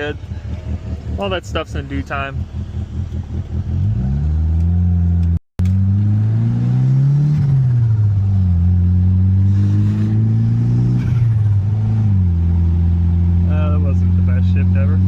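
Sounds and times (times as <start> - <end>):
turbocharged car engine revving: 0.0 - 15.0.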